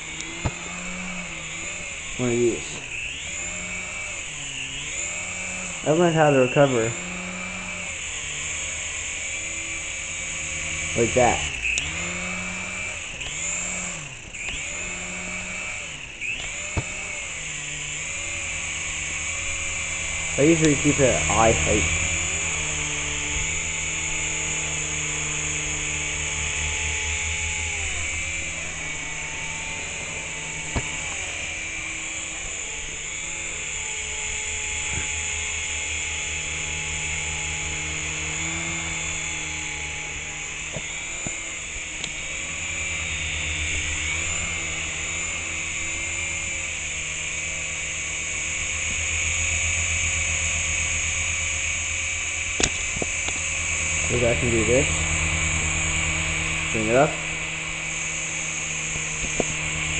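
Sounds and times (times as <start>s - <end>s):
helicopter motor whine: 0.0s - 59.9s
rotor blades buzzing: 0.0s - 59.9s.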